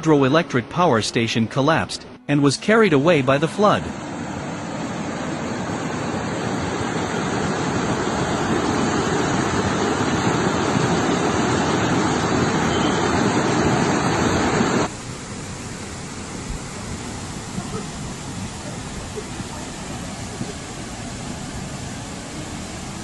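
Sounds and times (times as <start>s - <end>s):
floodwater rushing: 2.3s - 23.0s.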